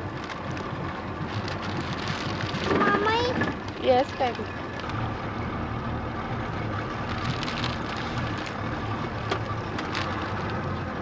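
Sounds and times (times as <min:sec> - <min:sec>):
motorboat engine idling: 0:00.0 - 0:11.0.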